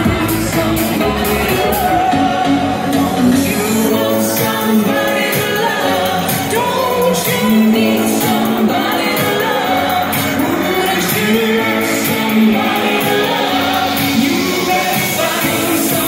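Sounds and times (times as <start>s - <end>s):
loud pop music with singing: 0.0s - 16.0s.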